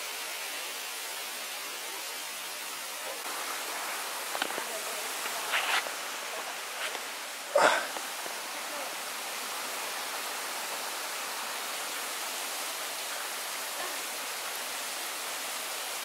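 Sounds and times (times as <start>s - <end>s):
small waterfall hissing: 0.0s - 16.0s.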